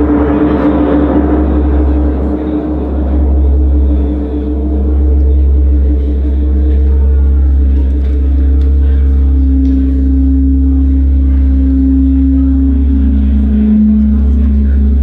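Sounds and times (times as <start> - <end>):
deep bass synthesizer drone: 0.0 - 15.0
long held synthesizer tones: 0.0 - 15.0.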